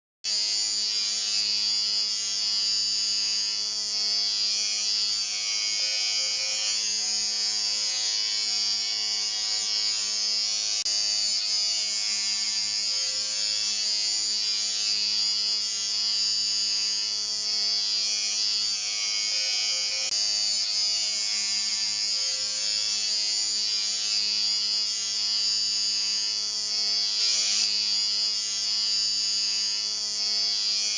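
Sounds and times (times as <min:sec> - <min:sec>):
electric shaver buzzing: 0:00.3 - 0:30.9.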